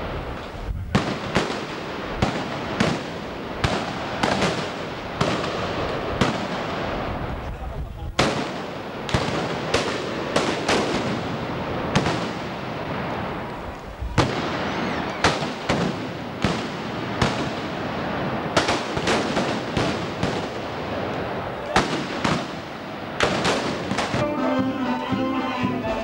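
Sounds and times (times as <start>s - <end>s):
background noise: 0.0s - 26.0s
gunshots: 0.9s - 7.2s, 8.2s - 13.3s, 14.1s - 24.3s.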